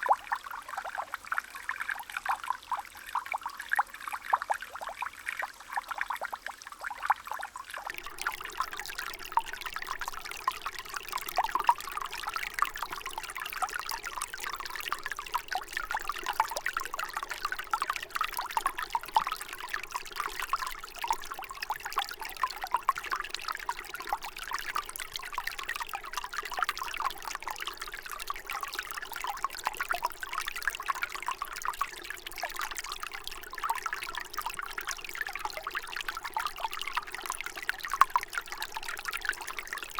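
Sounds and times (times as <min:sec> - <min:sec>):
water pouring in a trickle: 0:00.0 - 0:39.9.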